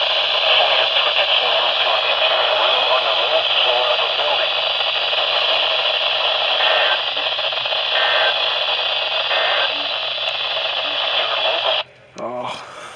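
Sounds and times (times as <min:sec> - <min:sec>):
radio static hiss: 0:00.0 - 0:11.9.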